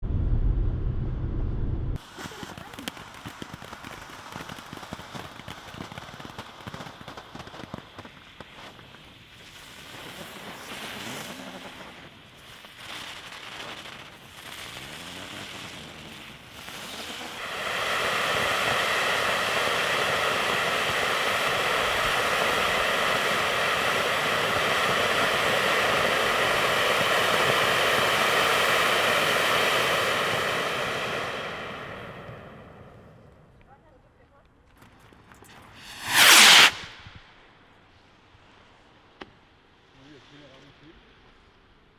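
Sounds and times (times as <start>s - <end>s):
fireworks crackling and popping: 0.0s - 33.8s, 34.6s - 41.9s
firework fountain hissing: 2.0s - 33.6s, 35.6s - 41.9s.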